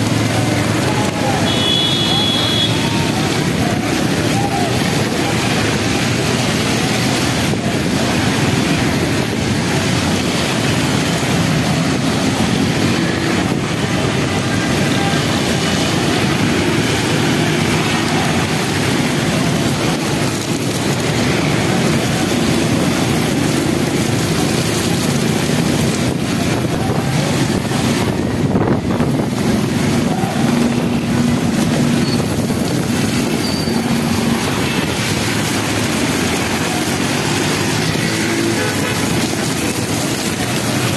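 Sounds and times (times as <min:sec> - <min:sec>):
heavy rain pouring: 0:00.0 - 0:40.9
motorcycle engines running: 0:00.0 - 0:40.9
tyres hissing through water: 0:00.0 - 0:40.9.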